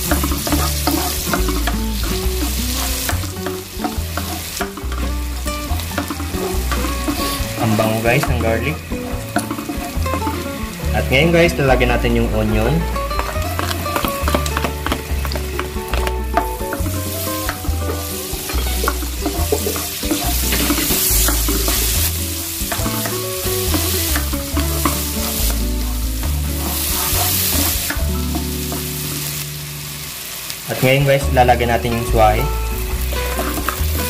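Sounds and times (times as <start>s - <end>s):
spatula stirring in wok: 0.0s - 11.0s, 12.9s - 29.5s, 32.7s - 34.0s
onion and garlic sizzling: 0.0s - 34.0s.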